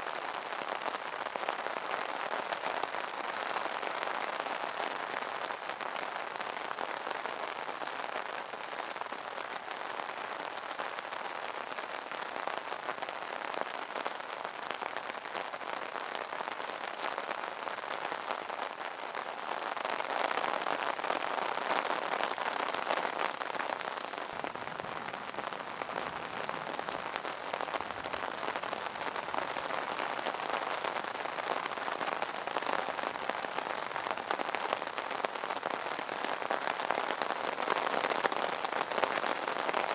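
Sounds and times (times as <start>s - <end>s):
rain pattering on an umbrella: 0.0s - 39.9s.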